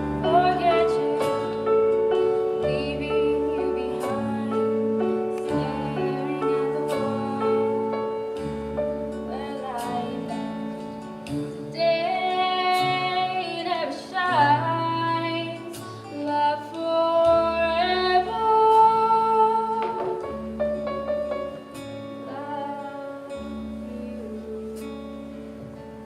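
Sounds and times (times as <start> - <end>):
woman singing: 0.0 - 8.5, 9.2 - 11.0, 11.6 - 20.9, 22.2 - 25.6
guitar accompaniment: 0.0 - 26.0.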